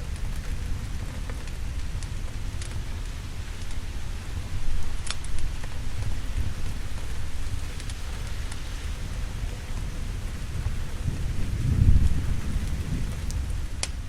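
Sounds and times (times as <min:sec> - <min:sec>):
crackling fire pops: 0:00.0 - 0:14.0
deep low rumble: 0:00.0 - 0:14.0
heavy rain: 0:00.0 - 0:14.0.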